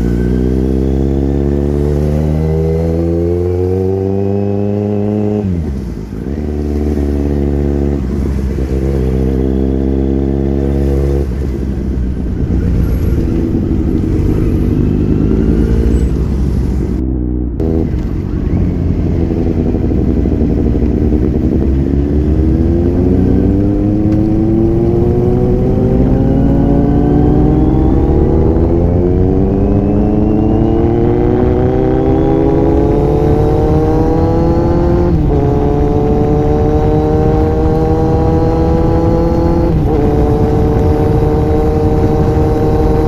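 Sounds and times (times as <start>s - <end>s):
motorcycle engine: 0.0s - 43.0s.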